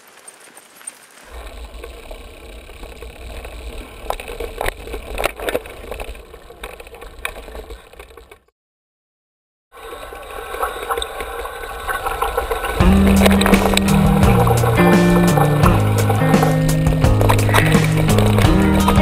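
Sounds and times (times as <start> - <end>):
bike clicks and rattles: 0.0 - 8.5, 10.8 - 19.0.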